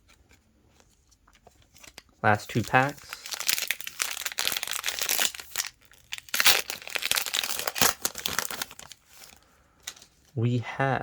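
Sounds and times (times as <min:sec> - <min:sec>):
plastic wrapper crinkling: 0:01.2 - 0:10.1.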